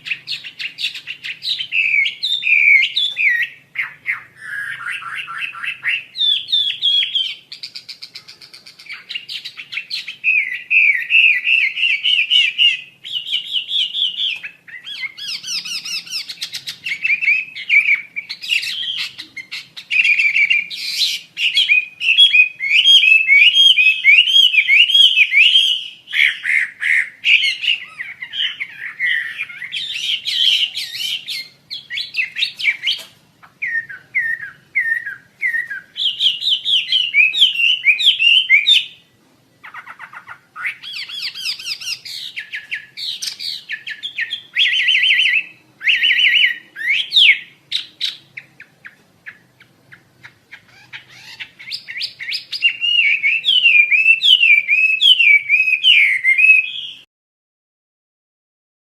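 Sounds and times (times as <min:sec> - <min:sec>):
bird chattering song: 0:00.0 - 0:57.1.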